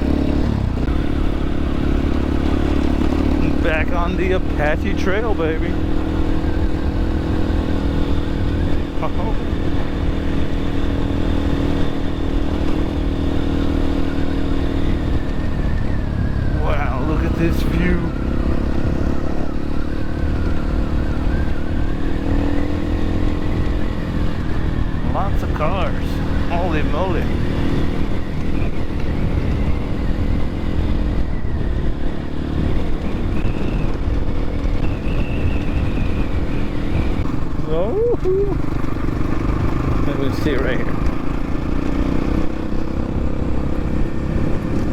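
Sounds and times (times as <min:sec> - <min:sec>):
dirt bike engine rumbling: 0:00.0 - 0:44.9.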